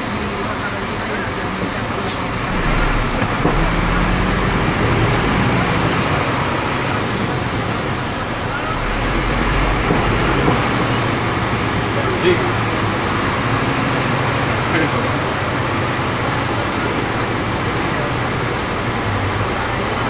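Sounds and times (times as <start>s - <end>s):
diesel engine hum in cab: 0.0s - 20.0s
road and cab noise: 0.0s - 20.0s.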